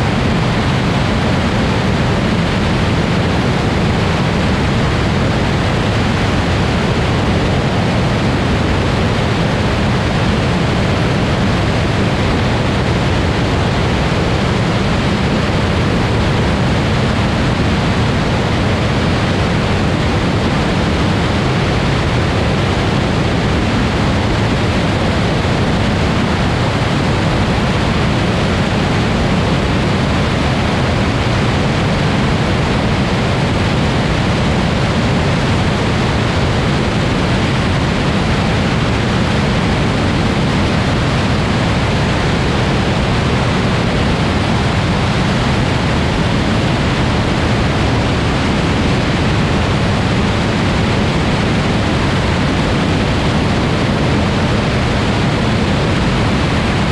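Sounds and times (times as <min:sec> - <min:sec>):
propeller plane engine drone: 0:00.0 - 0:56.9
wind rush on camera: 0:00.0 - 0:56.9.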